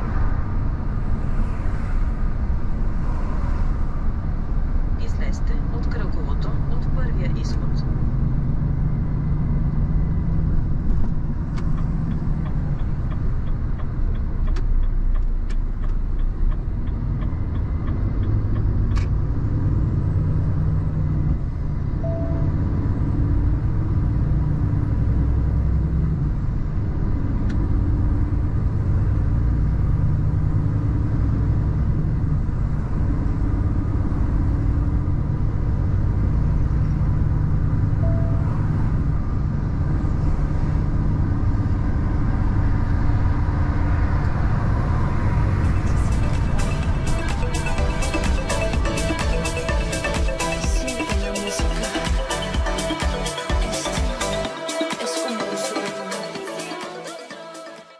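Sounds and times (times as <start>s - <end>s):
truck diesel engine accelerating: 0.0s - 56.4s.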